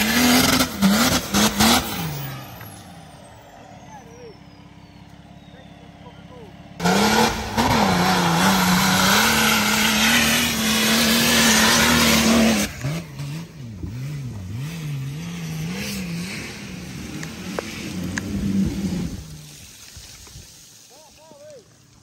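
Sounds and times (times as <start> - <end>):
turbodiesel engine revving: 0.0 - 3.4, 4.6 - 19.6.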